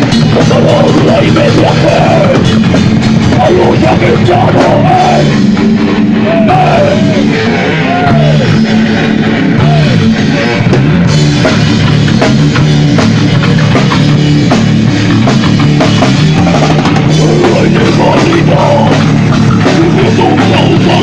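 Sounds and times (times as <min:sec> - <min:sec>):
drum kit: 0:00.0 - 0:21.0
electric guitar: 0:00.0 - 0:21.0.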